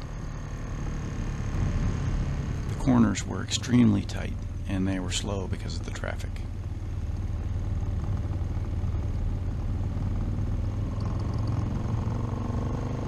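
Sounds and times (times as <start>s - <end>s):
faint higher engine note: 0.0s - 10.6s
motorcycle engine rumbling: 0.0s - 13.0s.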